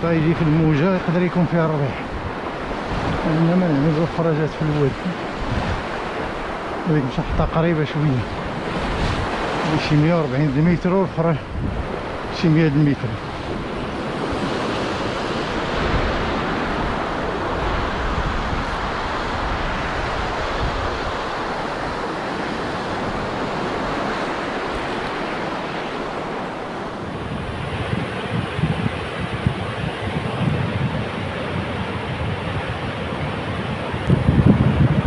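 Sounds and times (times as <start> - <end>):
surf breaking and washing: 0.0 - 35.0
wind buffeting the microphone: 0.0 - 35.0.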